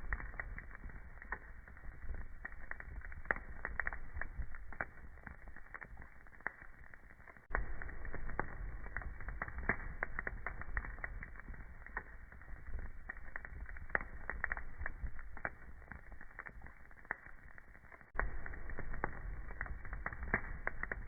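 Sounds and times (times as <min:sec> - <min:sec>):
low rumble of flame: 0:00.0 - 0:21.0
snaps and pops of burning logs: 0:00.0 - 0:21.0
wood fire crackling: 0:00.0 - 0:21.0.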